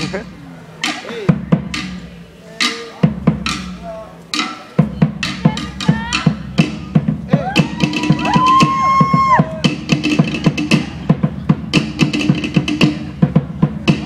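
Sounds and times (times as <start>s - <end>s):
drum ensemble playing: 0.0s - 14.0s.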